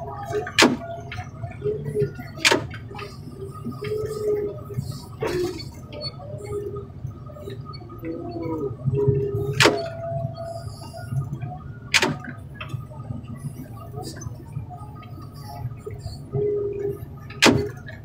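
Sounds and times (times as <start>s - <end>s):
diesel machinery rumbling: 0.0s - 18.0s.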